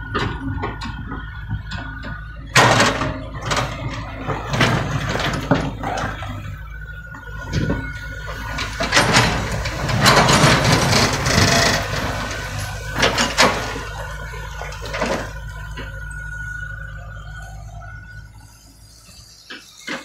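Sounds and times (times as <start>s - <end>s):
excavator engine whining: 0.0s - 20.0s.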